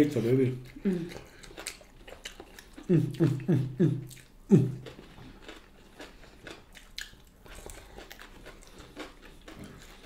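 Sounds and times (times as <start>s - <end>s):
people chewing food: 0.0s - 10.0s.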